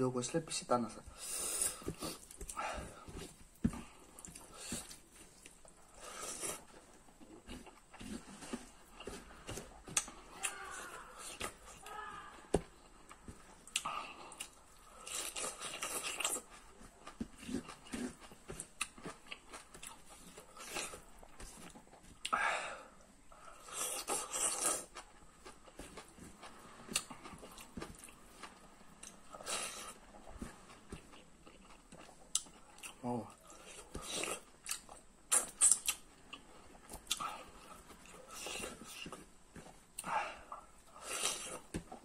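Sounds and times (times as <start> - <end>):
wet chewing: 1.3 - 22.4, 23.0 - 42.0.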